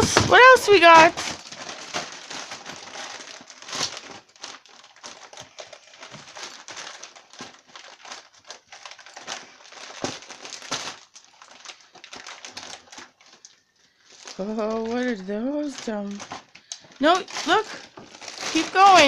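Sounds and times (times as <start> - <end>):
wrapping paper crinkling and tearing: 0.0 - 19.0.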